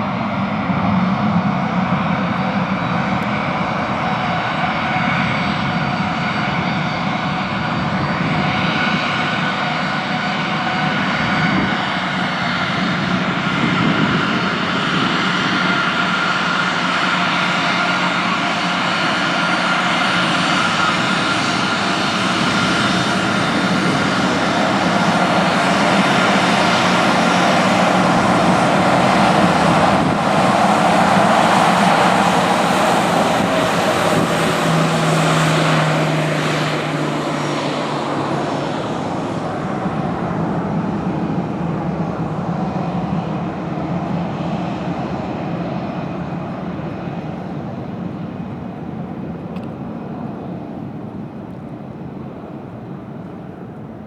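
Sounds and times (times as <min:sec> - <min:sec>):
aircraft engines whining: 0:00.0 - 0:54.0.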